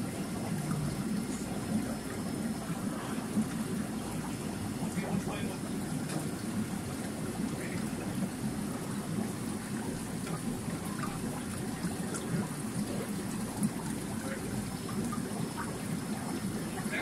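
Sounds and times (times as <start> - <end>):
aquarium water trickling: 0.0 - 17.0.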